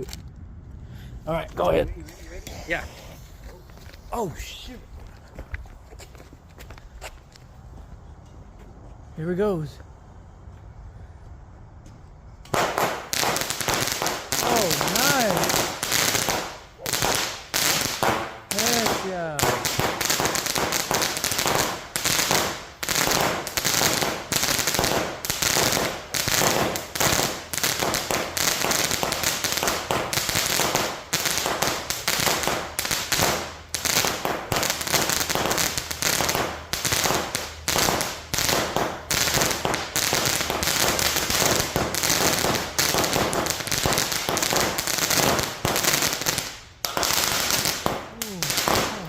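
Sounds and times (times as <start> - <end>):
firework cake firing volleys: 1.8 - 4.7, 12.6 - 49.0.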